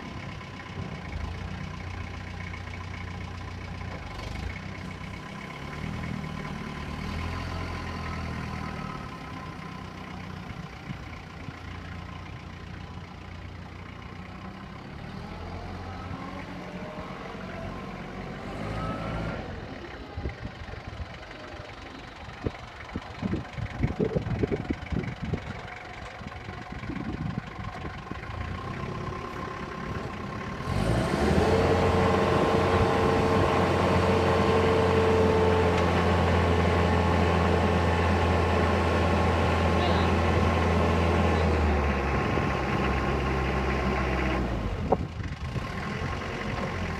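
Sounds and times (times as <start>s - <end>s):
forklift engine running: 0.0s - 46.9s.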